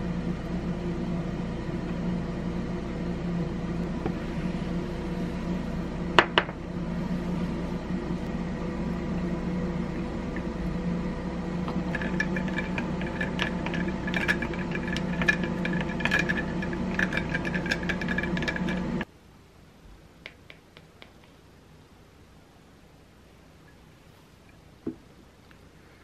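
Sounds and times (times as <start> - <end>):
steady appliance hum: 0.0 - 26.0.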